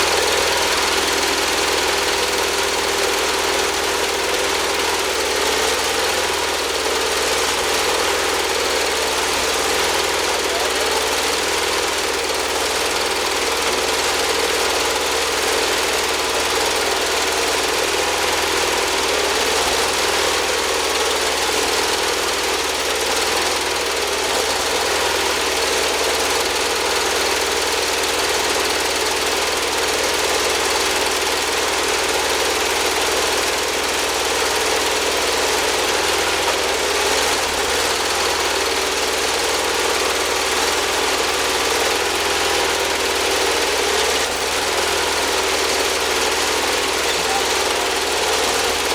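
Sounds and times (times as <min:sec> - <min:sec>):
band sawmill running: 0:00.0 - 0:48.9.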